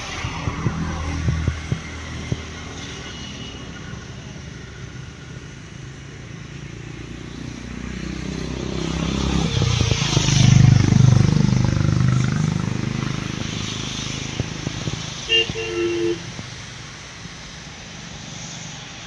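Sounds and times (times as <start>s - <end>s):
vehicle engine rumbling: 0.0s - 18.2s.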